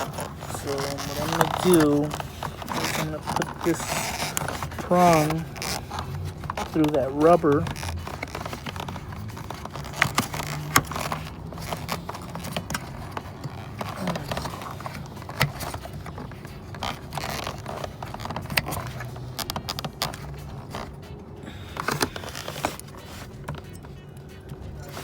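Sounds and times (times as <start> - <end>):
small clicks and scrapes: 0.0 - 21.1, 21.7 - 25.0.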